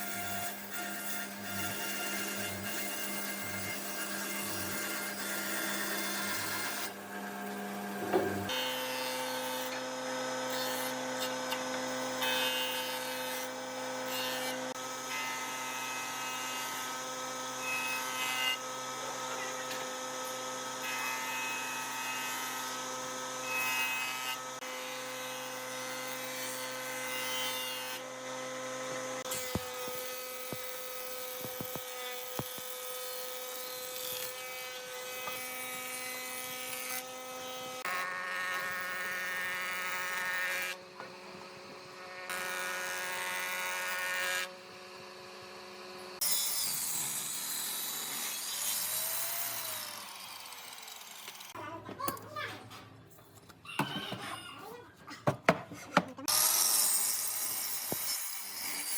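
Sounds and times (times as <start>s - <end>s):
power tools cutting wood: 0.0s - 52.5s, 55.5s - 58.9s.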